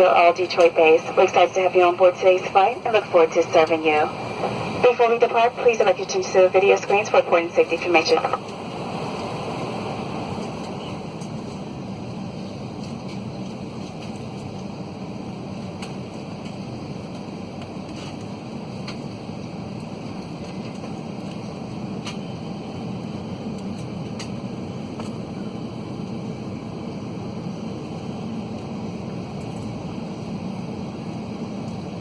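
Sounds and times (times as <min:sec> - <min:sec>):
cabin ventilation rush: 0:00.0 - 0:32.0
low hum: 0:00.0 - 0:32.0.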